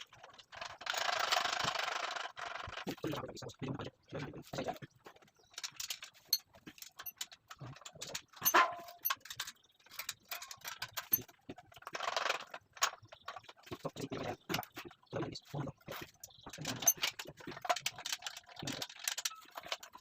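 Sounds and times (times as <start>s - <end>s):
metal parts clicking and knocking: 0.0s - 3.3s, 4.6s - 15.0s, 15.7s - 20.0s.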